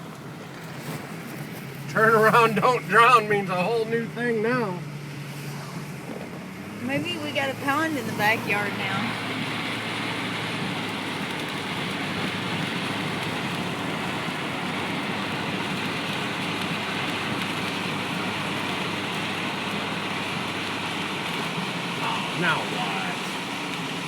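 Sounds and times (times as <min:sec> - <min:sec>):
steady hiss of rain: 0:00.0 - 0:05.3, 0:06.6 - 0:24.0.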